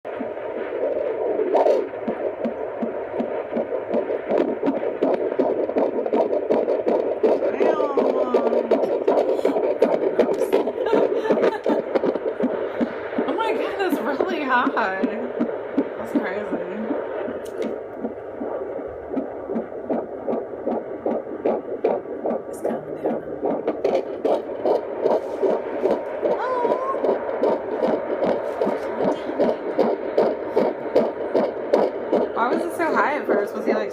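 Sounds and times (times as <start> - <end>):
fetal heartbeat on doppler: 0.0 - 33.9.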